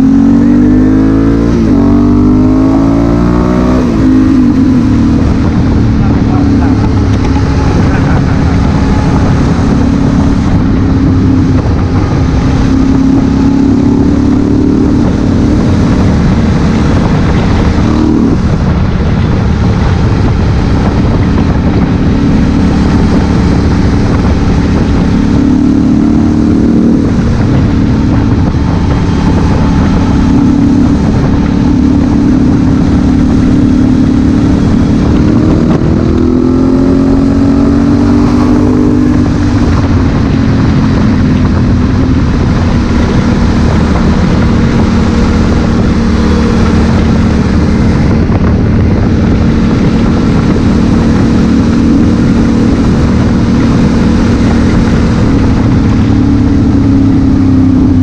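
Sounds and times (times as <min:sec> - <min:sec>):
motorcycle engine running: 0:00.0 - 0:58.0
steady rushing noise: 0:00.0 - 0:58.0.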